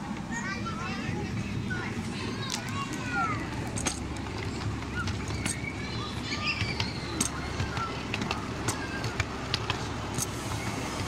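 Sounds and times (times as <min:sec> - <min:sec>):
miniature train rumbling: 0:00.0 - 0:11.0
wheels clicking on rails: 0:00.0 - 0:11.0.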